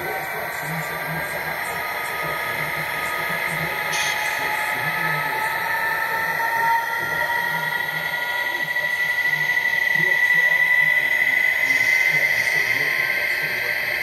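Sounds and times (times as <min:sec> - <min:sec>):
model train motor whine: 0:00.0 - 0:14.0
model train rumbling: 0:00.0 - 0:14.0.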